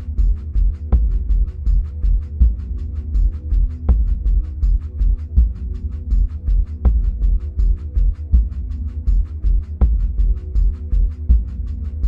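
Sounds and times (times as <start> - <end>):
pulsing bass: 0.0 - 12.0.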